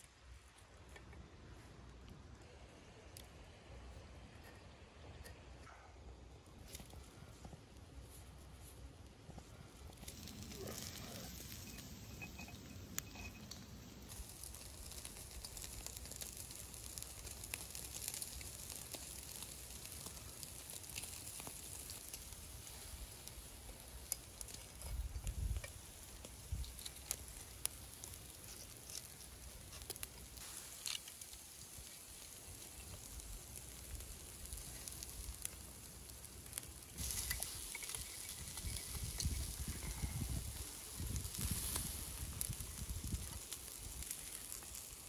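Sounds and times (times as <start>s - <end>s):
meat sizzling over charcoal: 6.6s - 45.0s
pops and crackles: 6.6s - 45.0s.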